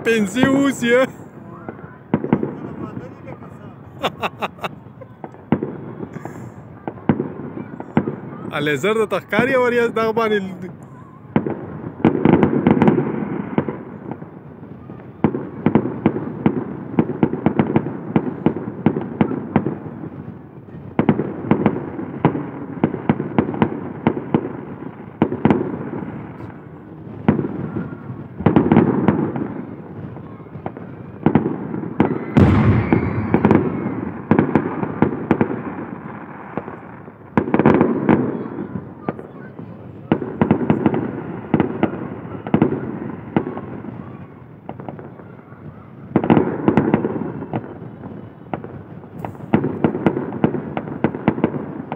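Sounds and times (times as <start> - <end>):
fireworks bangs and crackles: 0.0 - 51.9
heavy firework booms: 0.0 - 51.9.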